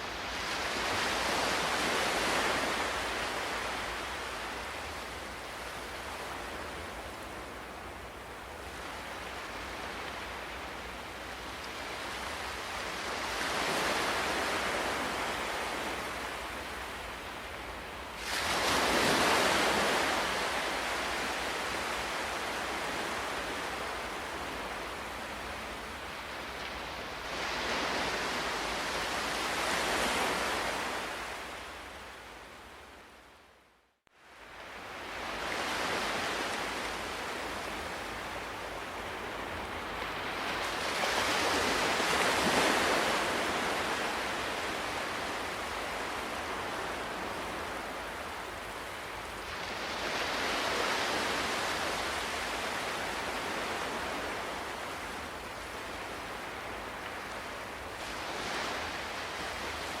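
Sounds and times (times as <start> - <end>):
sea waves surging and washing: 0.0 - 60.0.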